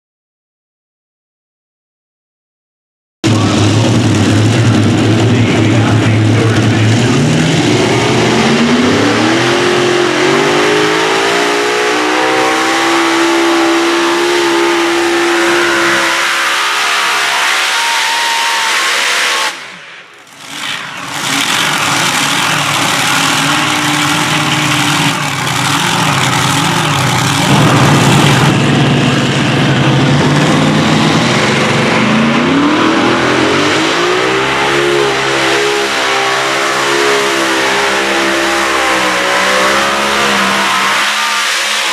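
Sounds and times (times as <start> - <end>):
tractor engines at full throttle: 3.3 - 41.9.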